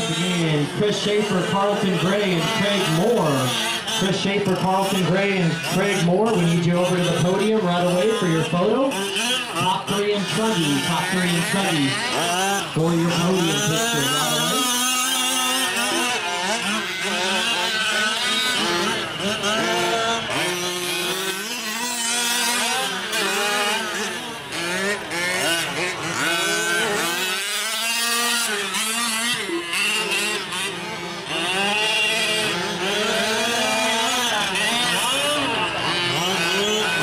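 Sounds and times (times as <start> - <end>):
rc truck engines revving: 0.0 - 37.0.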